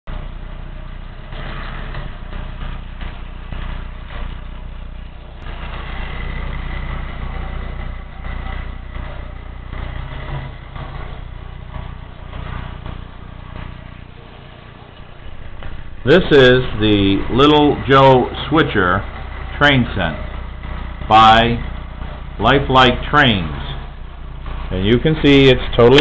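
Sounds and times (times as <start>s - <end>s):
toy locomotive motor hum: 0.1s - 26.0s.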